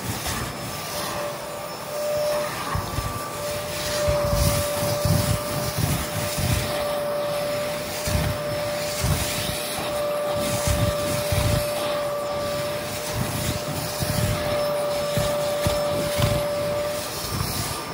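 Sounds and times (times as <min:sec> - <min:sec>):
carpet cleaner motor whine: 0:00.0 - 0:17.9.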